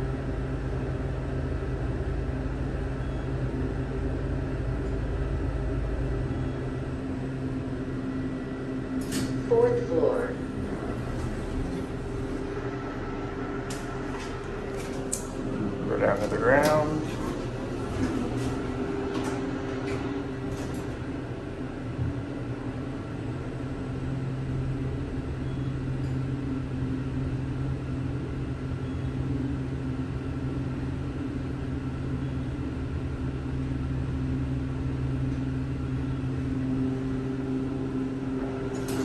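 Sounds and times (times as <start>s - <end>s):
elevator hum and rumble: 0.0s - 39.0s.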